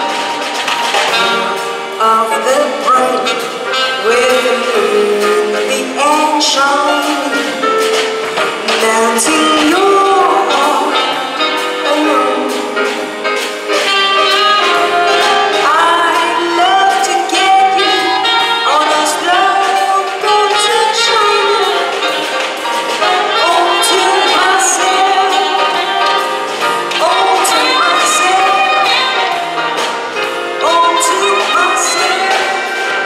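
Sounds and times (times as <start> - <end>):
drum kit: 0.0 - 33.0
saxophone: 0.0 - 33.0
woman singing: 1.2 - 13.1, 13.9 - 33.0.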